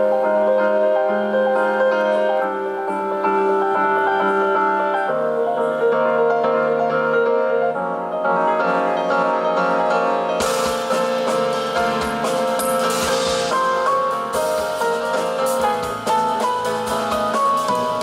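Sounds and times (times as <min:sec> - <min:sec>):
jazz piano trio playing: 0:00.0 - 0:18.0.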